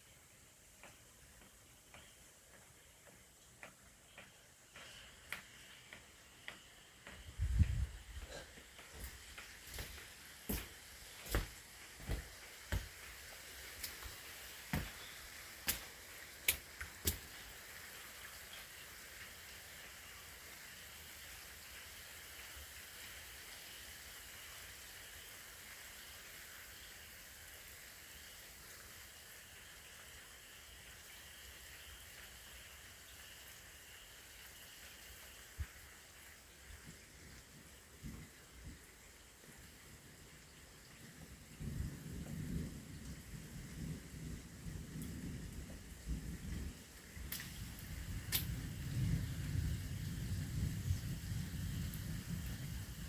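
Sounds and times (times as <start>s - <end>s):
rain falling: 0.0s - 53.0s
raindrops tapping close by: 0.6s - 29.0s, 29.6s - 53.0s.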